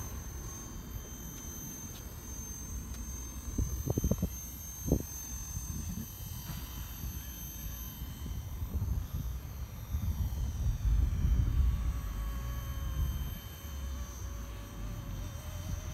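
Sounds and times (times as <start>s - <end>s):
rc helicopter whine: 0.0s - 15.9s.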